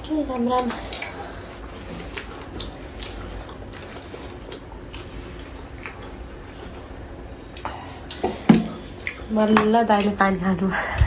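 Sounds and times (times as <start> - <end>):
chewing and mouth smacks: 0.0 - 10.3
low steady hum: 0.0 - 11.0.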